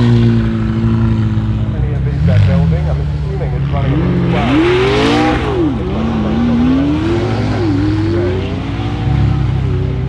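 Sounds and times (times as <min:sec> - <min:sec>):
sports car accelerating: 0:00.0 - 0:10.0.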